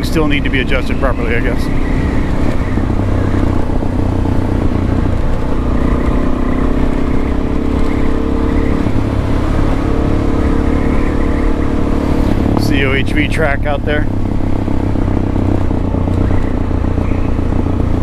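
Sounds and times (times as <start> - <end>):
low rumble of riding noise: 0.0 - 18.0
motorcycle engine running: 0.0 - 18.0.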